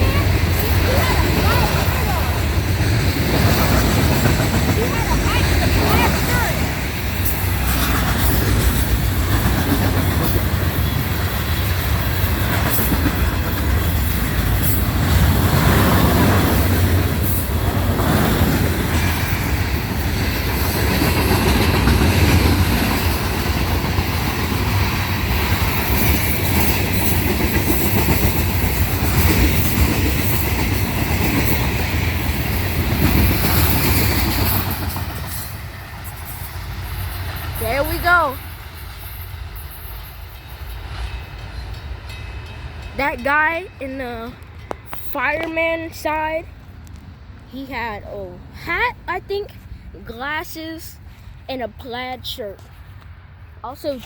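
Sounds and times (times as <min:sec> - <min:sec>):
wheels clacking over rail joints: 0:00.0 - 0:50.3
freight train rumbling past: 0:00.0 - 0:54.0.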